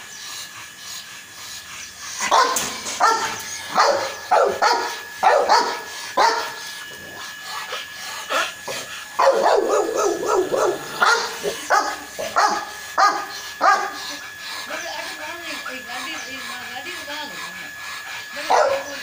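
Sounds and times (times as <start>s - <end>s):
dogs barking: 0.6s - 19.0s.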